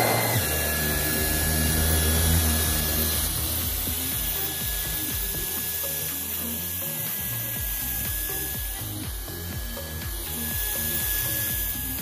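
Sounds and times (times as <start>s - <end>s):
vacuum cleaner suction and motor whine: 0.0s - 12.0s.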